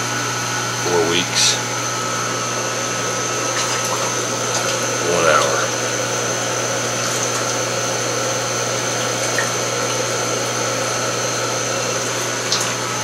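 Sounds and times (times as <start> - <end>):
aquarium air pump hum: 0.0 - 13.0.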